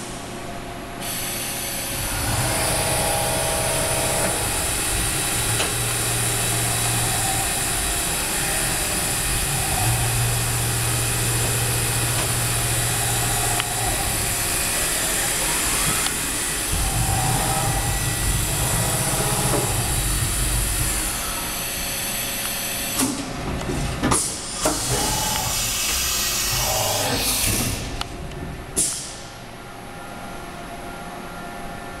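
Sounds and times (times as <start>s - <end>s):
machine shop rumble with hiss: 0.0s - 32.0s.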